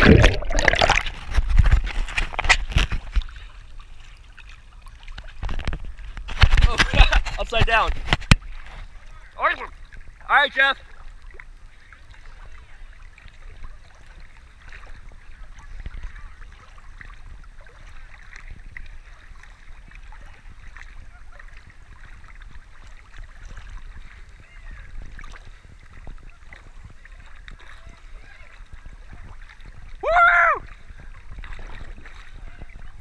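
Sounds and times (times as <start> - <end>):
water lapping and splashing: 0.0 - 33.0.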